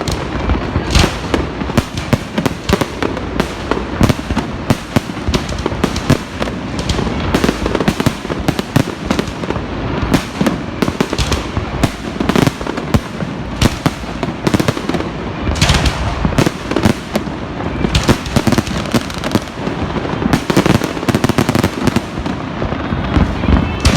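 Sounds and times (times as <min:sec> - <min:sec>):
fireworks bangs and crackling: 0:00.0 - 0:23.9.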